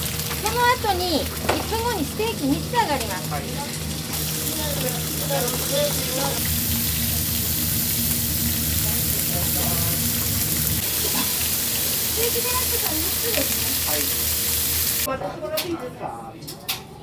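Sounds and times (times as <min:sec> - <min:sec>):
meat sizzling in a frying pan: 0:00.0 - 0:15.1.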